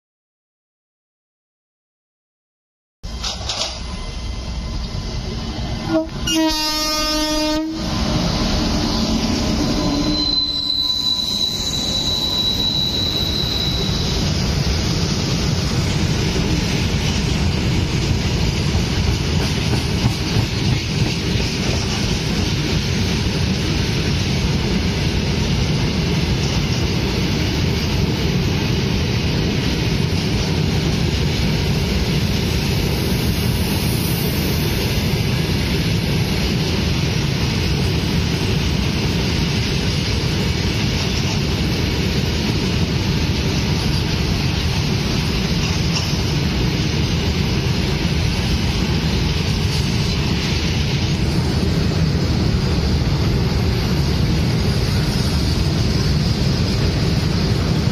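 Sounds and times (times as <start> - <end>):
freight train wheels rumbling: 3.0 - 57.9.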